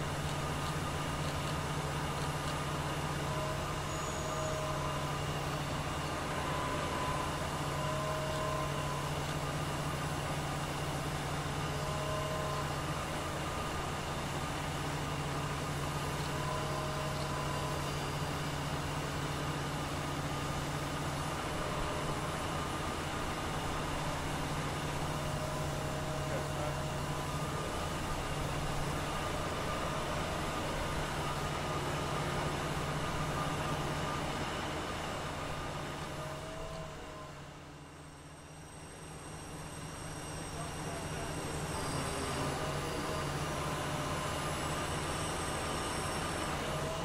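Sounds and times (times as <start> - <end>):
diesel engine running steadily: 0.0 - 47.0.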